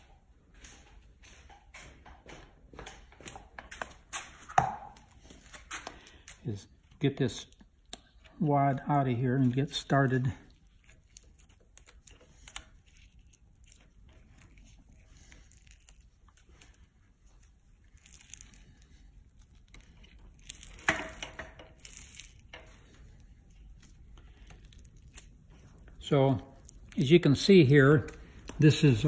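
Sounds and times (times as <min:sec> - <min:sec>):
crinkling peeling and scraping: 0:02.8 - 0:29.0.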